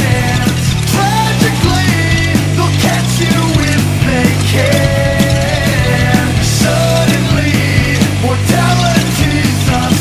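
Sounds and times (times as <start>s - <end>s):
held bass line: 0.0s - 10.0s
rock music: 0.0s - 10.0s
steady drum beat: 0.0s - 10.0s.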